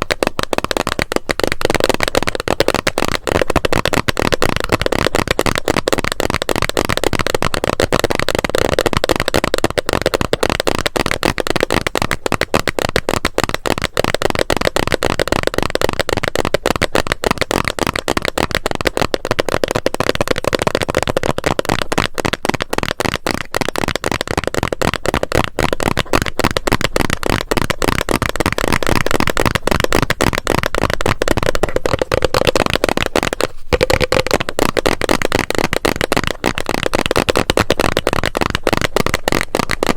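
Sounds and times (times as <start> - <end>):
fast tapping on plastic bottle: 0.0 - 39.9.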